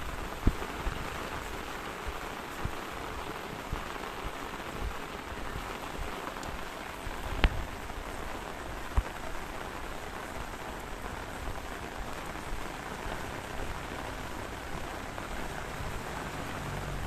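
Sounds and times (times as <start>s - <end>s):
steady rain falling: 0.0s - 17.0s
water drips striking nearby: 0.1s - 17.0s.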